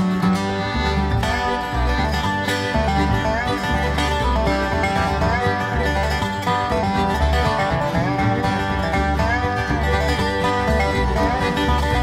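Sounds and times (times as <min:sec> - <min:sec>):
acoustic folk instrumental music: 0:00.0 - 0:12.0.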